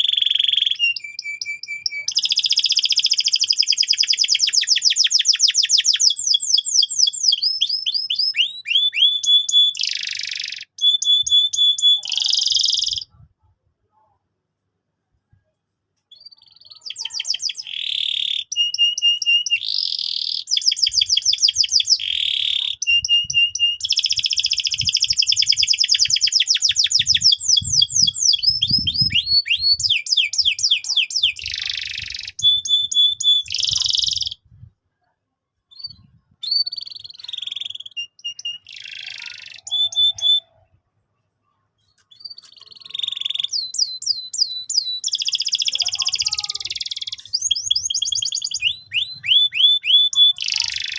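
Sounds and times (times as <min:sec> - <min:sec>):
canary singing trills: 0:00.0 - 0:13.3, 0:16.1 - 0:34.5, 0:35.7 - 0:40.8, 0:41.8 - 0:50.9.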